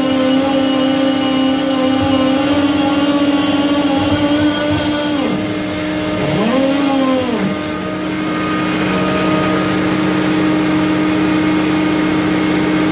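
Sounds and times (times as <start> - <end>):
net winch and engine running: 0.0 - 12.9
whine rising and falling in pitch: 0.0 - 12.9.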